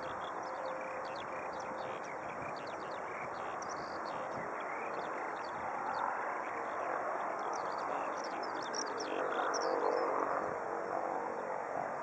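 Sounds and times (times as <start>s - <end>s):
small birds chirping: 0.0s - 10.3s
steady background rush: 0.0s - 12.0s.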